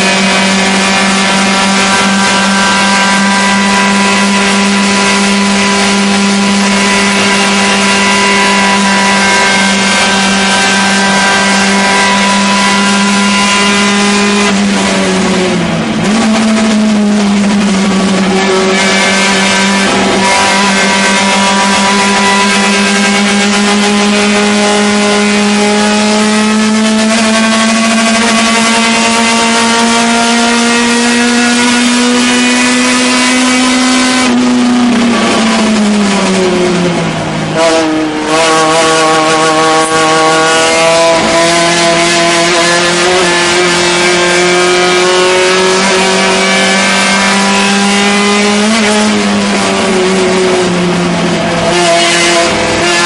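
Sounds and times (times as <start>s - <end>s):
race car engine at high revs: 0.0s - 53.0s.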